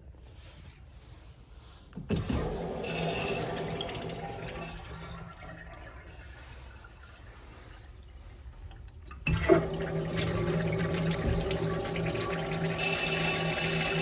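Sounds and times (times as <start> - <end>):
toilet flushing: 2.1 - 14.0.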